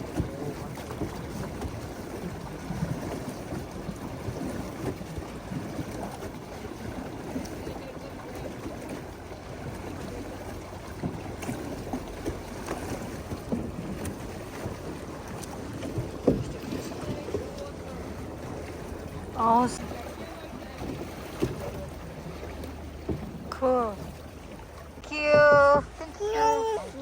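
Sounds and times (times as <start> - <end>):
water moving around boat: 0.0 - 27.0.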